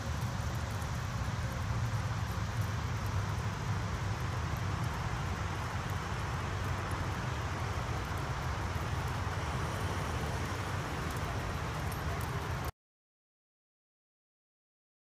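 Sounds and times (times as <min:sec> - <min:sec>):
low rumble with hiss: 0:00.0 - 0:12.7.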